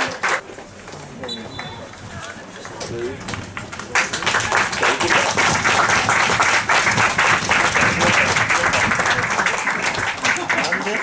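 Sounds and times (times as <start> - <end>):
people clapping: 0.0 - 0.4, 1.6 - 11.0
voices: 0.0 - 11.0.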